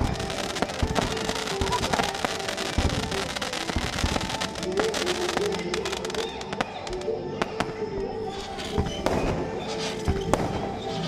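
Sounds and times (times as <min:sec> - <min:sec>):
fireworks bursting with bangs and crackles: 0:00.0 - 0:11.0.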